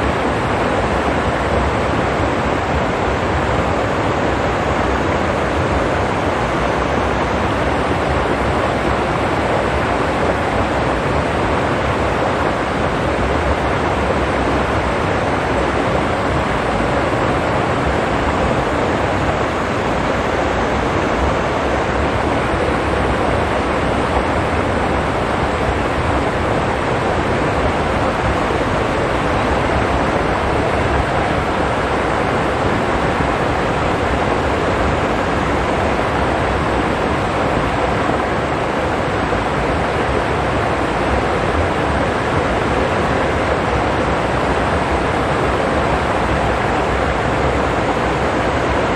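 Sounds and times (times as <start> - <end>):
stream rushing over stones: 0.0 - 48.9.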